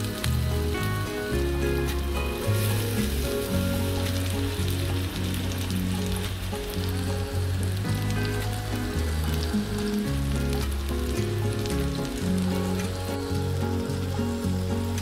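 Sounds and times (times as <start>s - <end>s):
background music with low notes: 0.0s - 15.0s
kebabs sizzling in oil: 0.0s - 15.0s.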